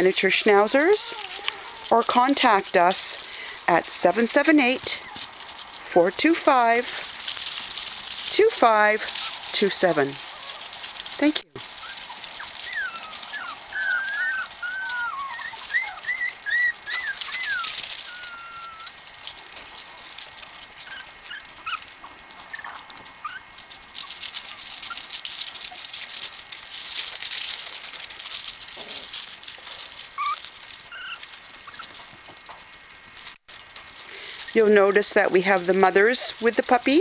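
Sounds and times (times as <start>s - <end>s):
puppies whimpering: 0.0s - 32.6s, 34.0s - 37.0s
steady hiss: 0.0s - 37.0s.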